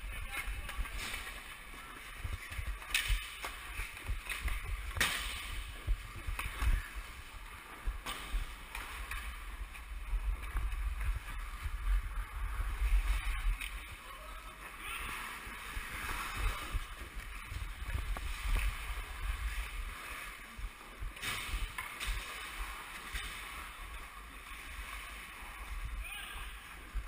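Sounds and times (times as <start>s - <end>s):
camera movement rumble: 0.0s - 14.2s, 14.8s - 25.9s.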